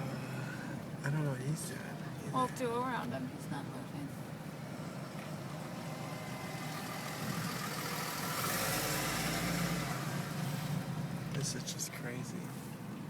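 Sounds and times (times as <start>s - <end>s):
car engine and road hum: 0.0s - 13.0s.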